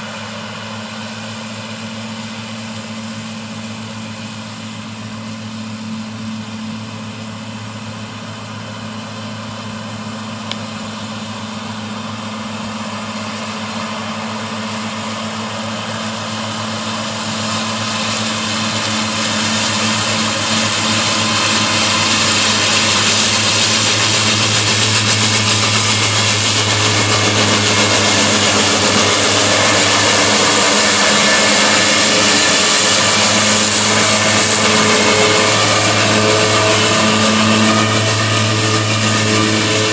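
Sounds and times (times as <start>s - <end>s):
tractor engine and mowers humming: 0.0s - 39.9s.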